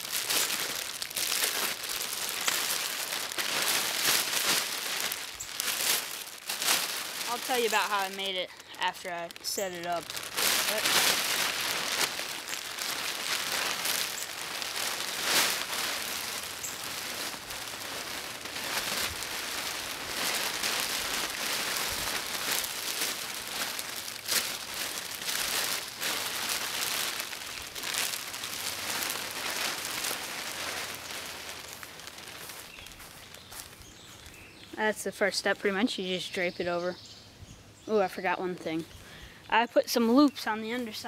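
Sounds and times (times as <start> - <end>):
tarp rustling and crinkling: 0.0 - 36.8, 37.9 - 41.0.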